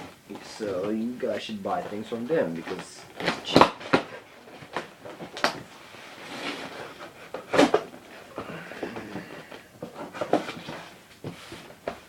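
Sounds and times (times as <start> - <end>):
packaging rustling and scraping: 0.0 - 12.0.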